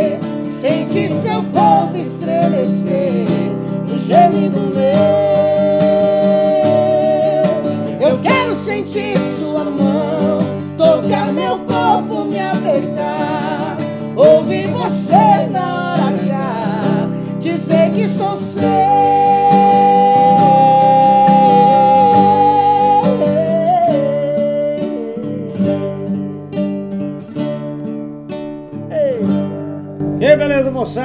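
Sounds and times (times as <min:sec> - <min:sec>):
two men singing in harmony: 0:00.0 - 0:26.6, 0:28.9 - 0:29.9
acoustic guitar: 0:00.0 - 0:31.0.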